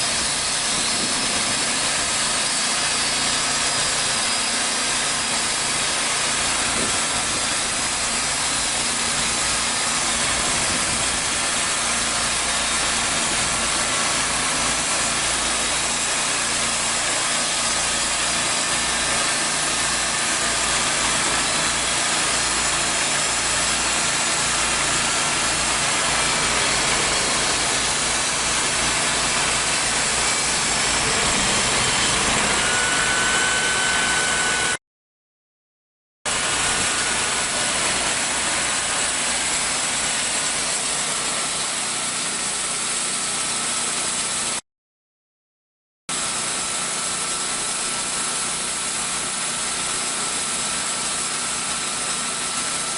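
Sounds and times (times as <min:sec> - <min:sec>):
band blade sawing log: 0:00.0 - 0:34.8, 0:36.3 - 0:44.6, 0:46.1 - 0:52.9
band sawmill engine running: 0:00.0 - 0:34.8, 0:36.3 - 0:44.6, 0:46.1 - 0:52.9.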